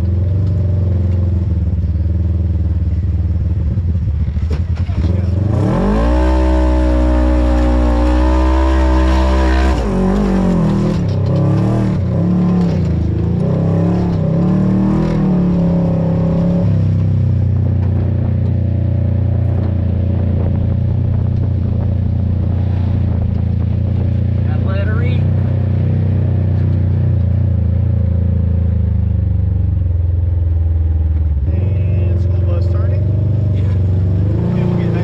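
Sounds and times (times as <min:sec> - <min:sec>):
engine revving: 0:03.7 - 0:29.5, 0:31.4 - 0:35.0.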